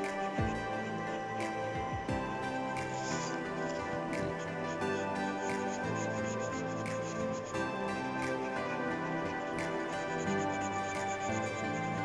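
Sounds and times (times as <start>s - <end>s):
gentle instrumental chords: 0.0s - 12.0s.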